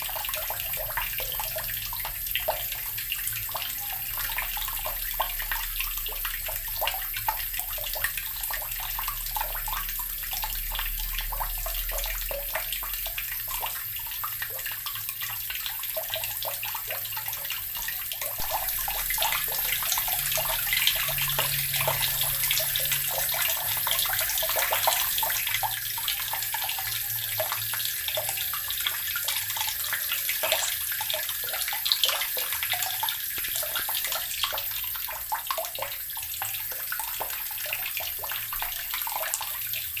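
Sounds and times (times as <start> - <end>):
water running from a tap: 0.0 - 40.0.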